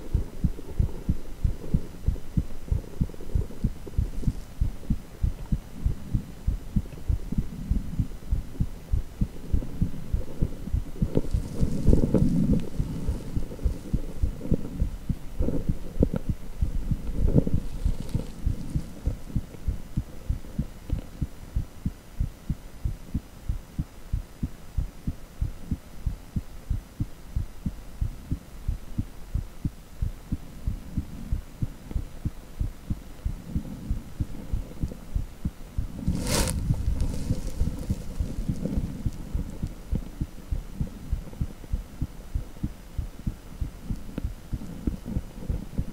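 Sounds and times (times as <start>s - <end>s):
ultrasound heartbeat pulsing: 0.0s - 45.9s.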